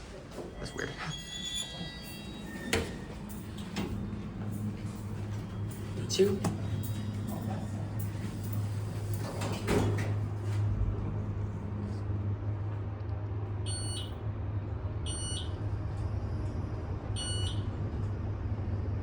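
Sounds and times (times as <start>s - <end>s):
elevator car humming: 0.0s - 19.0s.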